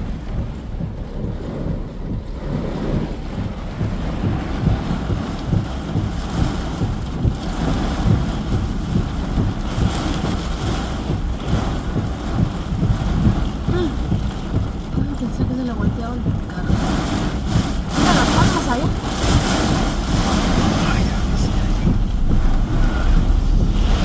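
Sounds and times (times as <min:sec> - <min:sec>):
storm wind buffeting microphone: 0:00.0 - 0:24.0.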